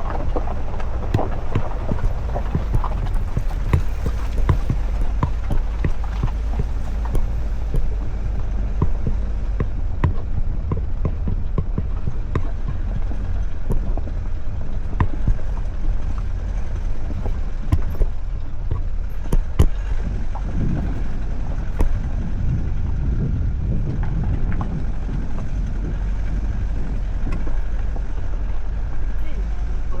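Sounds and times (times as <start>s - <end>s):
knocks and rattles: 0.0s - 30.0s
vehicle rumbling on bumpy road: 0.0s - 30.0s.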